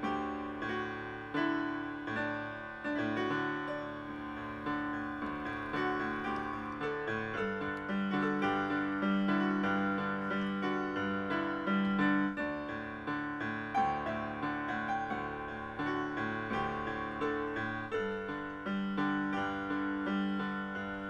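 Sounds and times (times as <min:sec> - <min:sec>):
slow solo piano piece: 0:00.0 - 0:21.0.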